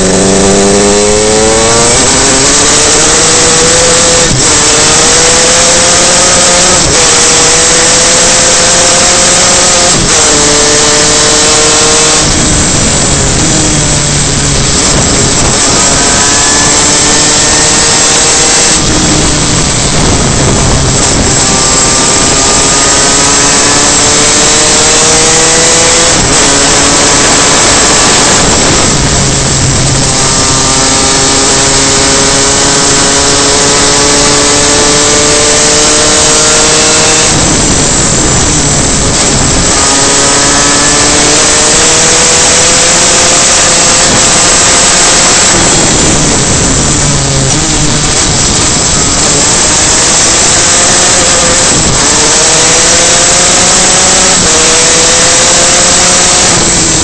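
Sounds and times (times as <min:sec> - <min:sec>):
kart engine running hard: 0:00.0 - 0:57.0
wind noise rushing: 0:00.0 - 0:57.0.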